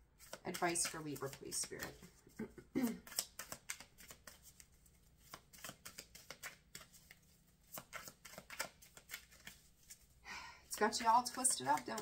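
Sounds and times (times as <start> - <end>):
cards being shuffled: 0.2 - 12.0.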